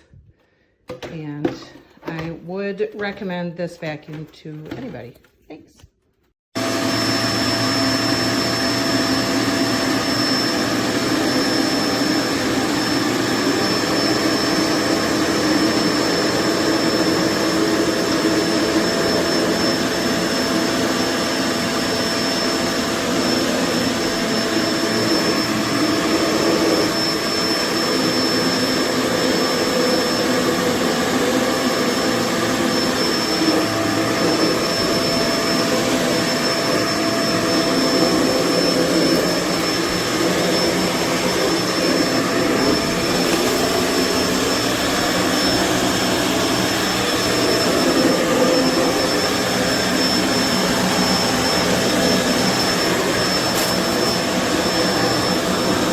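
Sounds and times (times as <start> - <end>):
vacuum cleaner running: 0.0 - 5.0, 6.6 - 55.9.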